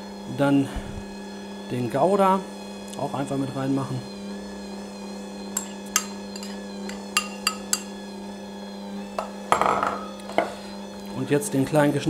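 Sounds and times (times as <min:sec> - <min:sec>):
stand mixer motor hum: 0:00.0 - 0:12.0.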